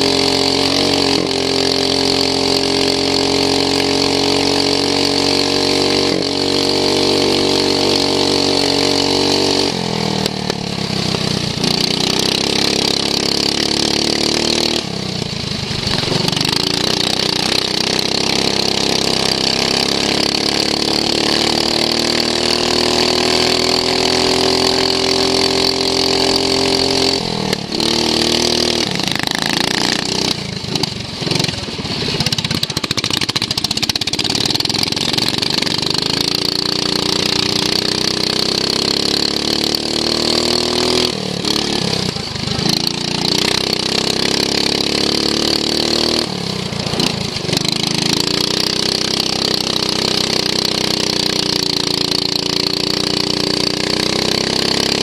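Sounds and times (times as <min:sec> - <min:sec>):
lawn mower engine at high revs: 0:00.0 - 0:55.0.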